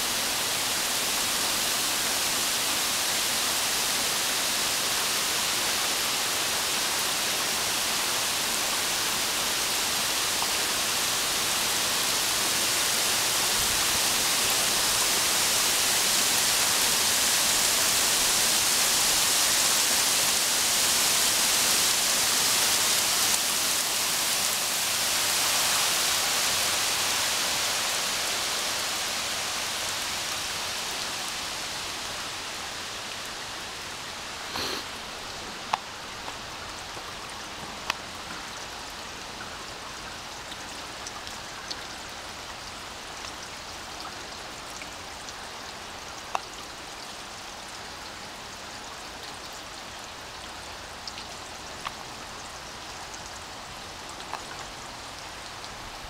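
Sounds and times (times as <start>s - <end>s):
heavy rain on asphalt: 0.0s - 56.0s
sharp ticks of raindrops: 4.8s - 56.0s.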